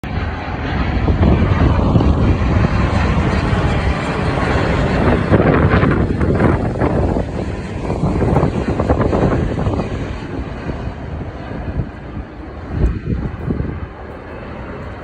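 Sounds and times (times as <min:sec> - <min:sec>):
jet airliner rumbling overhead: 0:00.0 - 0:15.0.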